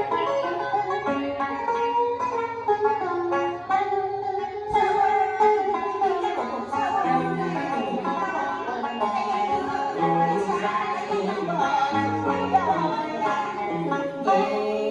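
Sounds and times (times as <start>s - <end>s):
low musical accompaniment: 0.0s - 14.9s
plucked-string melody: 0.0s - 14.9s.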